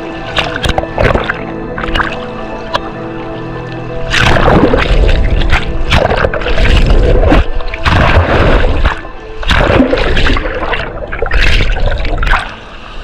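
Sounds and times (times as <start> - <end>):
faint music: 0.0 - 13.0
ocean waves splashing: 0.0 - 13.0.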